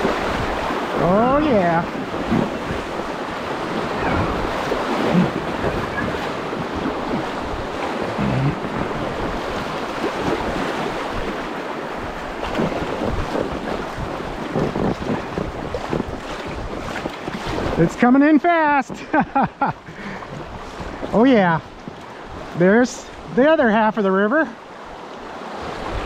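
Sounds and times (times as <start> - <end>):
river water rushing and splashing: 0.0 - 26.0.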